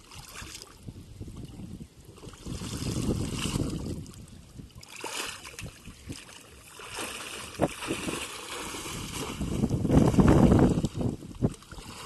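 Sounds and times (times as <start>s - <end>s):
shallow water splashing: 0.0s - 12.0s
wind rumble on microphone: 0.0s - 12.0s.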